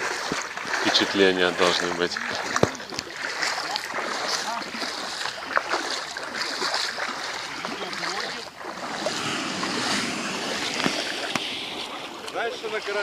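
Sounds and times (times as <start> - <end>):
waves lapping on shingle: 0.0 - 13.0.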